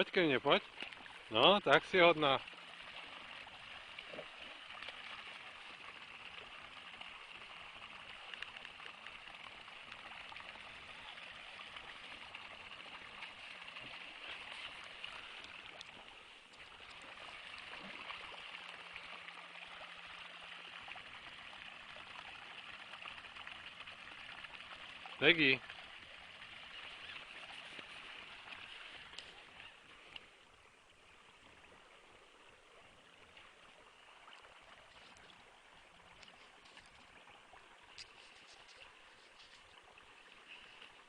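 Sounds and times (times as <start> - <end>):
faint ticks and crackles: 0.0 - 41.0
stream flowing: 0.0 - 41.0.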